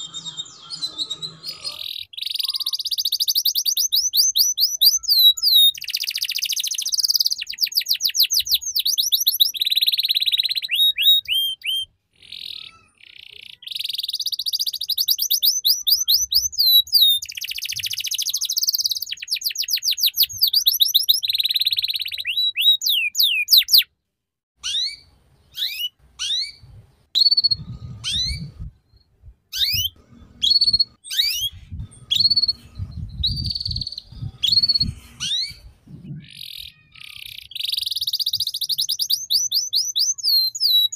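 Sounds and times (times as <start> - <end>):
canary singing trills: 0.0 - 23.9, 24.6 - 40.9.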